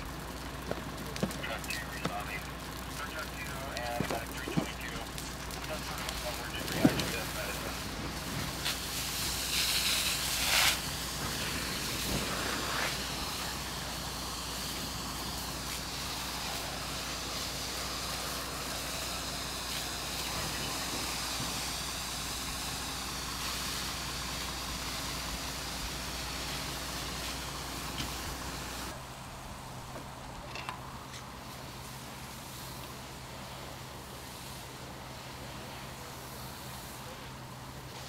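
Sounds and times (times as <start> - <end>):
fire hose spray hissing: 0.0 - 30.1, 31.0 - 38.0
low engine hum: 0.0 - 38.0.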